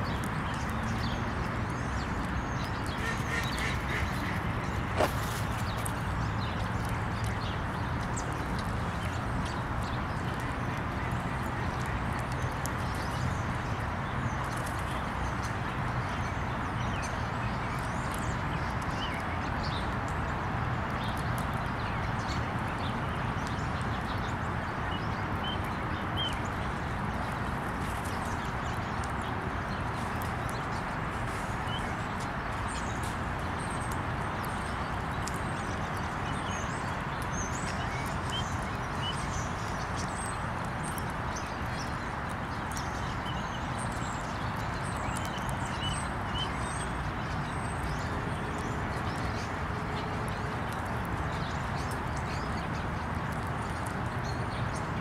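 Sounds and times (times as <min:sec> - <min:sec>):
outdoor background hiss and rumble: 0:00.0 - 0:55.0.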